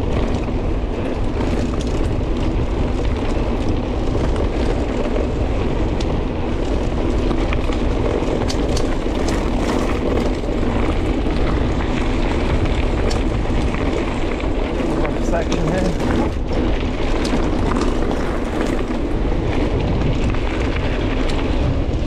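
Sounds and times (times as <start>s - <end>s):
bike clicks and rattles: 0.0s - 22.0s
bike tyres rumbling on gravel: 0.0s - 22.0s.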